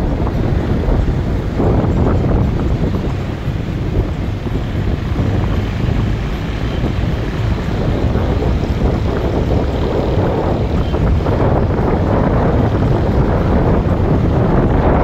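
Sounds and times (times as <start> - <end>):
car road and engine noise: 0.0 - 15.0
wind buffeting microphone: 0.0 - 15.0.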